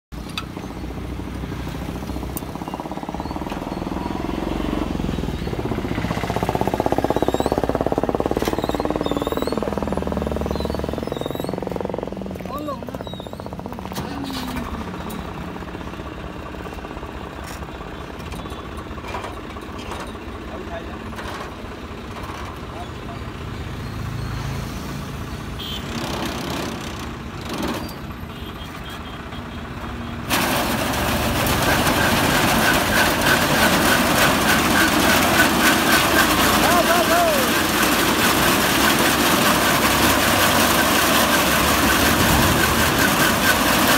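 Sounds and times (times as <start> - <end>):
tractor engine pulsing: 0.1 - 23.1, 29.8 - 43.9.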